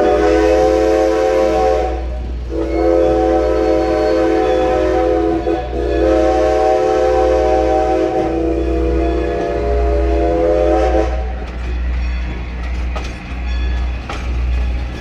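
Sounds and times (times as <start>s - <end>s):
steam locomotive chime whistle: 0.0s - 15.0s.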